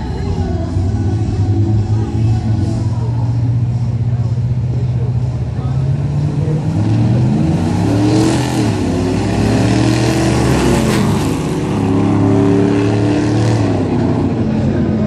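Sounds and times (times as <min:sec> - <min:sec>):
pickup truck engines racing: 0:00.0 - 0:15.0
trucks rushing past: 0:00.0 - 0:15.0.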